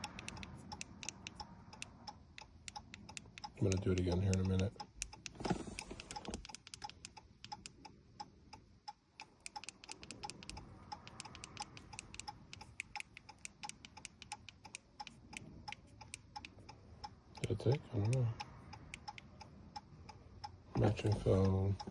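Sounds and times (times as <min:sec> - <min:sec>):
rapid mechanical ticking: 0:00.0 - 0:21.9.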